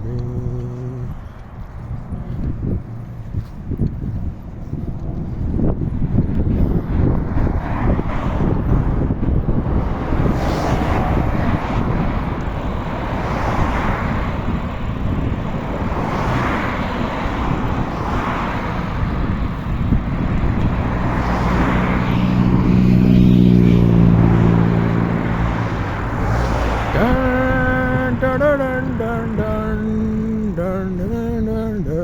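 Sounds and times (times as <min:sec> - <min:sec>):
road noise while cycling: 0:00.0 - 0:32.0
vehicle engine hum passing: 0:00.0 - 0:32.0
wind rushing over microphone: 0:00.0 - 0:32.0.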